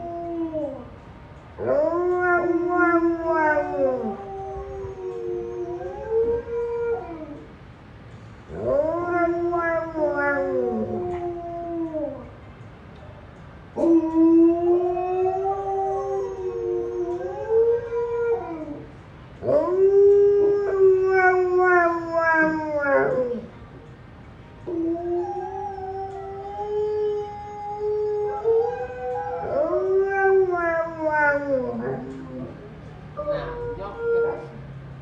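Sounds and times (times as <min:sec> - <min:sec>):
dog howling: 0:01.6 - 0:07.5, 0:08.5 - 0:12.4, 0:13.8 - 0:23.5, 0:24.6 - 0:34.6.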